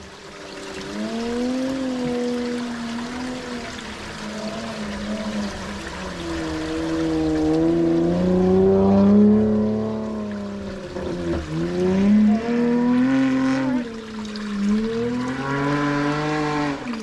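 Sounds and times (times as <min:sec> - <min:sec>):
vehicle engine revving: 0:00.8 - 0:17.0.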